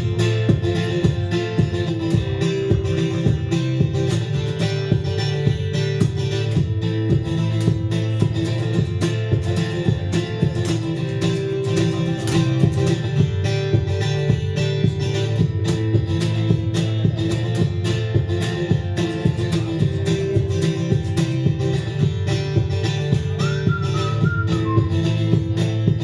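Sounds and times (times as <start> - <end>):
steady drum beat: 0.0 - 26.0
strummed guitar: 0.0 - 26.0.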